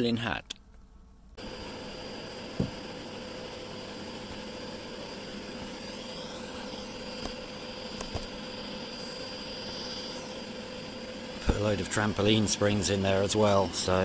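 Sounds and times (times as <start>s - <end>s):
fan hum: 0.6s - 14.0s
furnace roaring: 1.3s - 14.0s.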